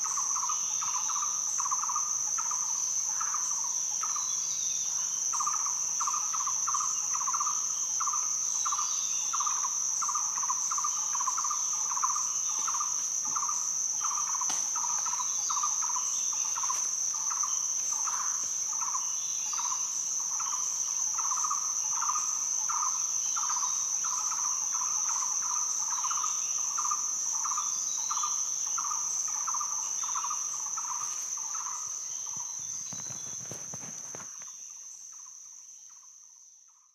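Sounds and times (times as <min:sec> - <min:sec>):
high-pitched insect drone: 0:00.0 - 0:36.1.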